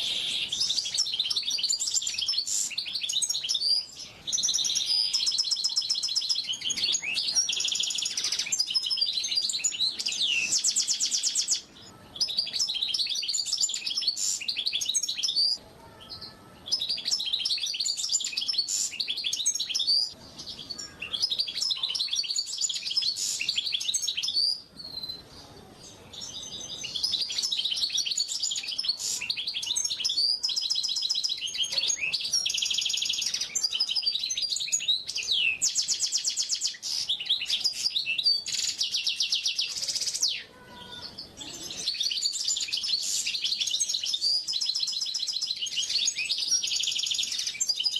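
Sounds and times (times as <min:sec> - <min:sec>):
bird twittering and trilling: 0:00.0 - 0:47.9.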